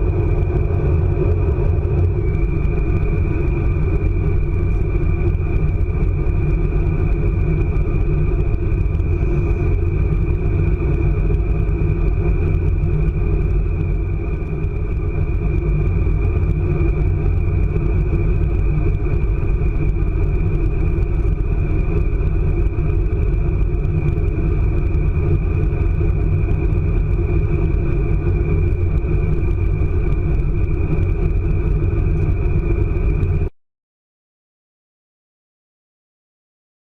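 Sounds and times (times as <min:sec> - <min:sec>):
high train whine: 0:00.0 - 0:33.5
train rumble: 0:00.0 - 0:33.5.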